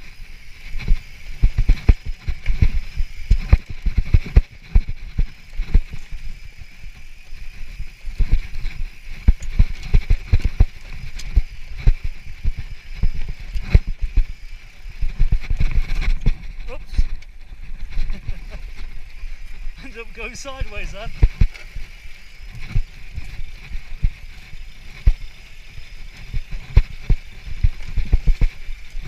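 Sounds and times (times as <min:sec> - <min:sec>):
tyres rolling on dirt: 0:00.0 - 0:29.0.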